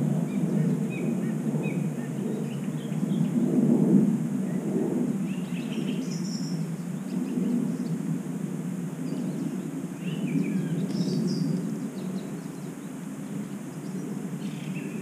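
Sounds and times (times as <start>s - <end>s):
wind buffeting microphone: 0.0s - 15.0s
small birds chirping: 0.2s - 3.6s, 4.5s - 8.1s, 9.0s - 15.0s.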